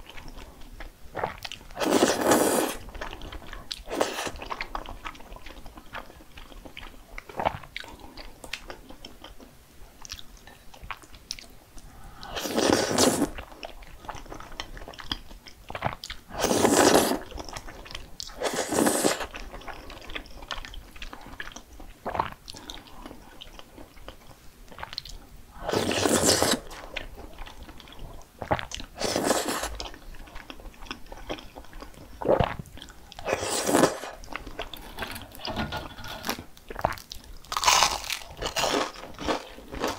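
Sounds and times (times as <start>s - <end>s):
person eating crunchy food: 0.0s - 8.0s, 12.2s - 24.0s, 24.7s - 39.9s.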